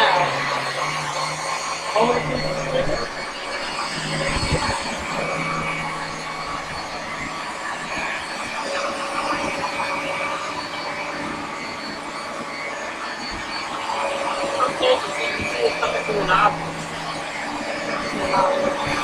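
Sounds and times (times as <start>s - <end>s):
carpet washer motor drone: 0.0s - 19.0s
high motor whine: 0.0s - 19.0s.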